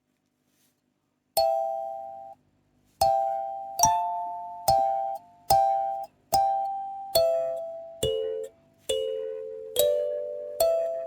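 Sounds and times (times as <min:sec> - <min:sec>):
kalimba plucked notes: 0:01.4 - 0:02.4, 0:03.0 - 0:11.0.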